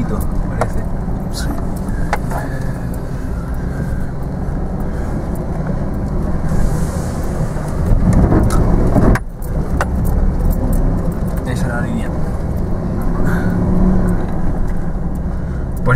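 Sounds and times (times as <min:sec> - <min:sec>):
jeep engine under load: 0:00.0 - 0:15.9.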